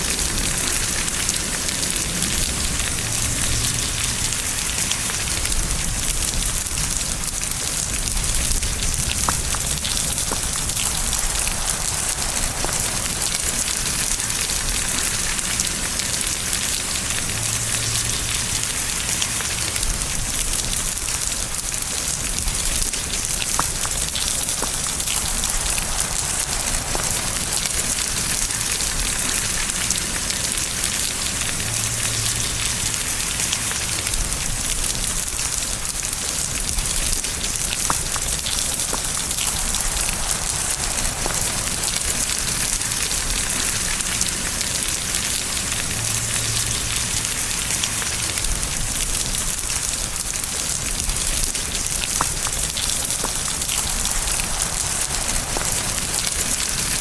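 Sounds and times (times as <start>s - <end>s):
raindrops ticking close by: 0.0s - 57.0s
steady rain hiss: 0.0s - 57.0s.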